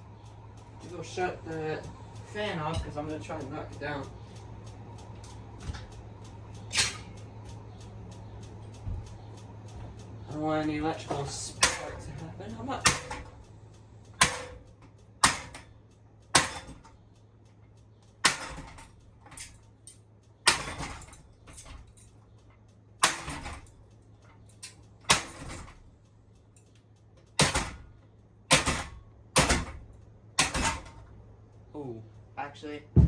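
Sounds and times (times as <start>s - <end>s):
blows on ceiling fan with metallic ring: 0.0s - 33.0s.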